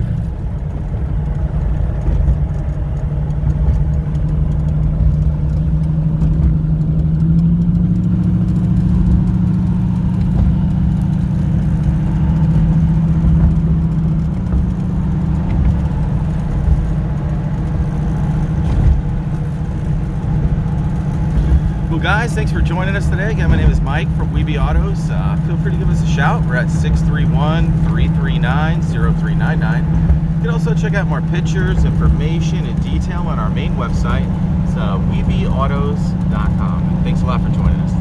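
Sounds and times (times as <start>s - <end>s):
vee eight engine exhaust note: 0.0s - 38.0s.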